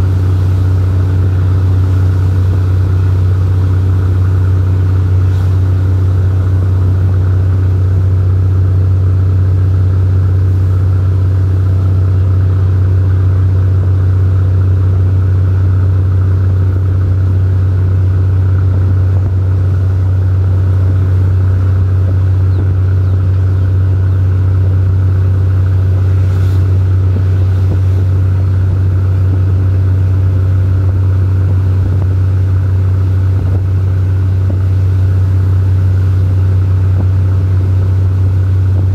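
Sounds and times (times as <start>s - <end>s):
train running low drone: 0.0s - 38.9s.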